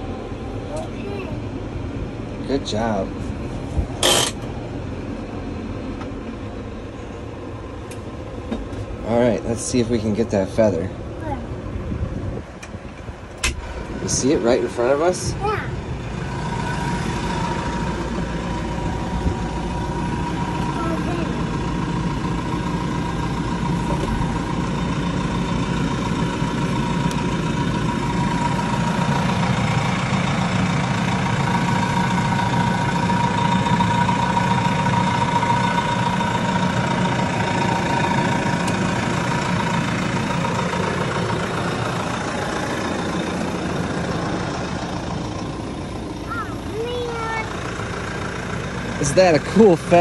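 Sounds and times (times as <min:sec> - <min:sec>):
tractor engine drone: 0:00.0 - 0:50.0.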